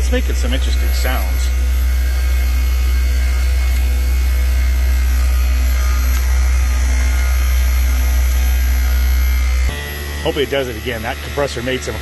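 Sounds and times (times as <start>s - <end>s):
compressor low hum: 0.0s - 12.0s.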